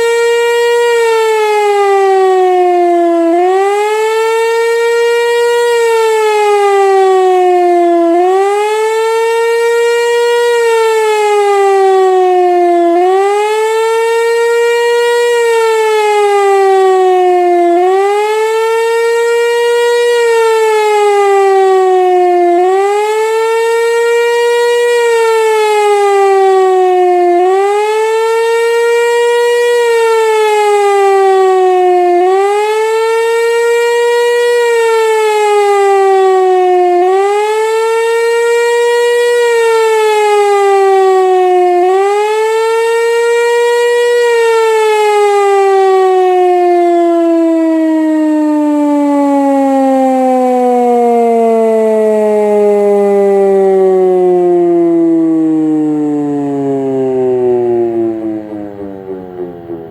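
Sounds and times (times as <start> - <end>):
pneumatic siren wailing: 0.0 - 59.9.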